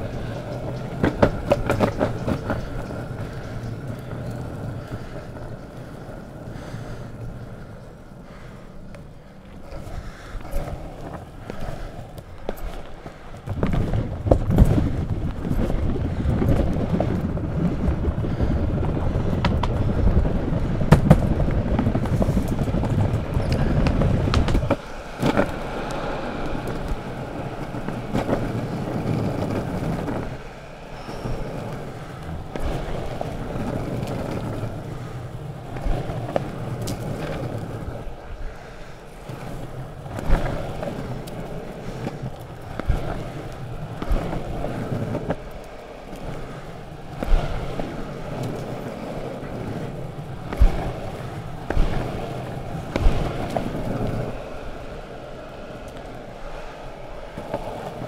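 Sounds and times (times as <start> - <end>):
board clacking over joints: 0.0 - 58.0
longboard wheels rolling on asphalt: 0.0 - 58.0.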